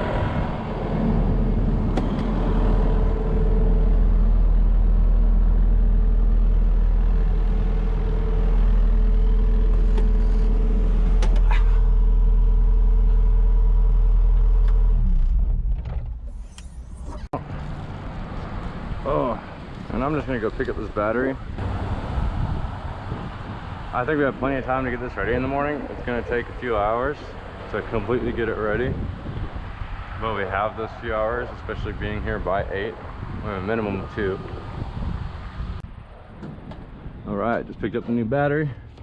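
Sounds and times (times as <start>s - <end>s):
vehicle engine droning: 0.0s - 37.2s.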